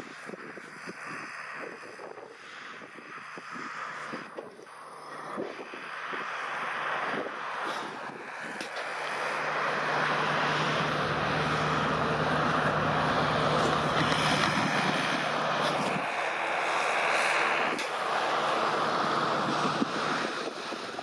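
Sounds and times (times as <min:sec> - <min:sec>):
tiller churning soil: 0:00.0 - 0:21.0
tractor engine hum: 0:00.0 - 0:21.0.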